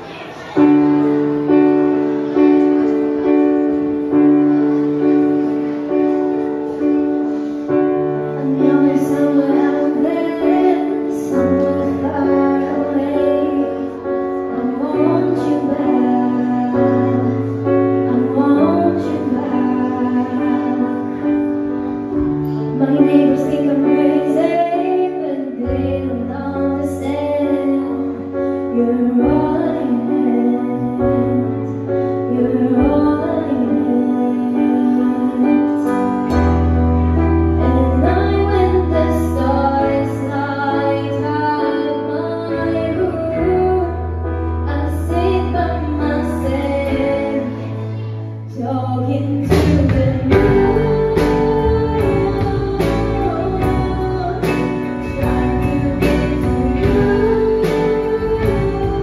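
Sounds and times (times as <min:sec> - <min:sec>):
repeated piano chords: 0:00.0 - 0:59.0
woman singing: 0:08.2 - 0:59.0.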